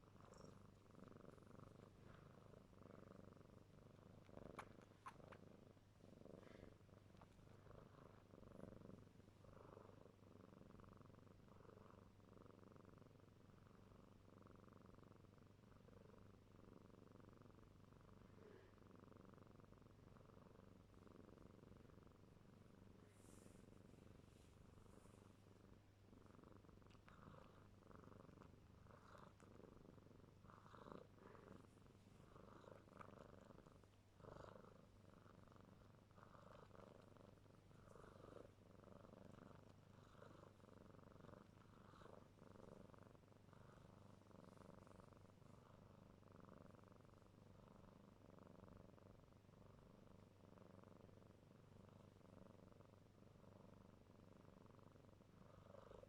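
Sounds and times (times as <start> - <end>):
kitten purring: 0.0 - 56.0.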